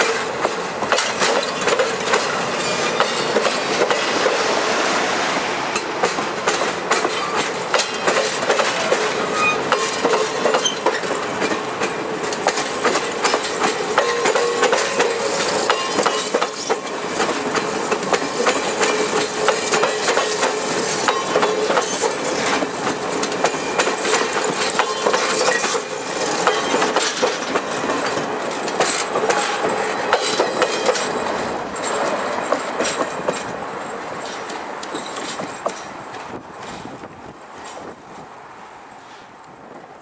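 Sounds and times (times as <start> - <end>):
train wheels clickety-clack: 0.0 - 38.3.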